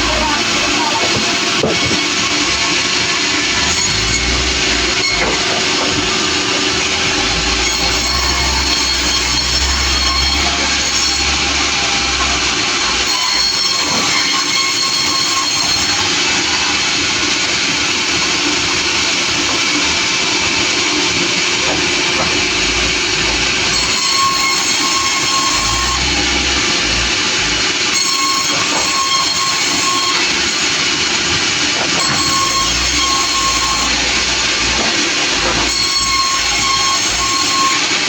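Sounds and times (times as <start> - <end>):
saw whining through log: 0.0 - 38.0
sawmill machinery running: 0.0 - 38.0.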